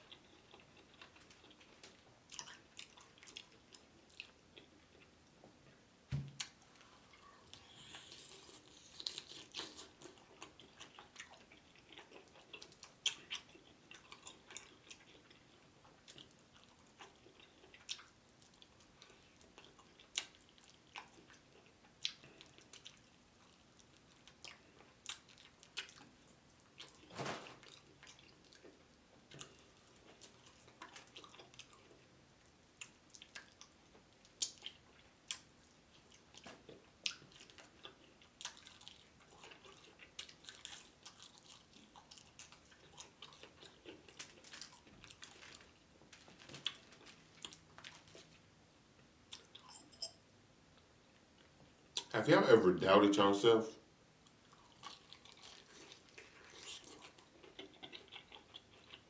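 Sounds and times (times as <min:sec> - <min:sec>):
chewing crunchy food: 0:00.0 - 0:05.4, 0:06.3 - 0:50.1, 0:54.2 - 0:59.0.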